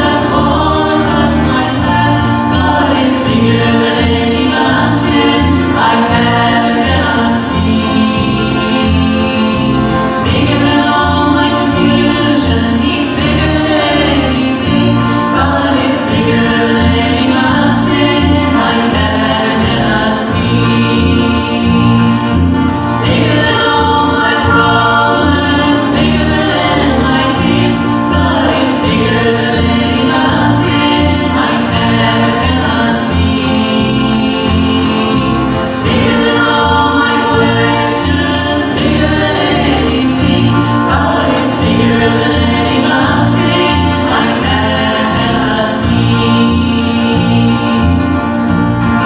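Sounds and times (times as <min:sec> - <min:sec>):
gospel group singing in harmony: 0:00.0 - 0:49.0
stepping bass line: 0:00.0 - 0:49.0.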